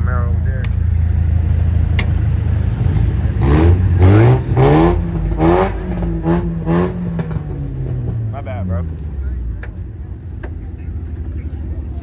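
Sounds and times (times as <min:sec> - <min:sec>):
car engine revving: 0:00.6 - 0:12.0.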